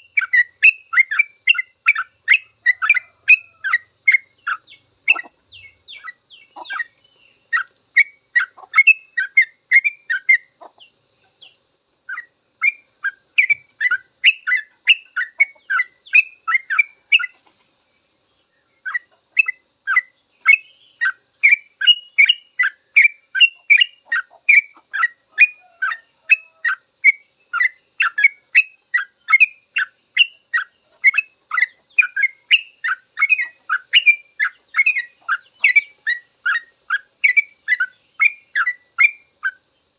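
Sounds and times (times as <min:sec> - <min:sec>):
bulbul singing: 0:00.0 - 0:17.4, 0:18.0 - 0:39.9.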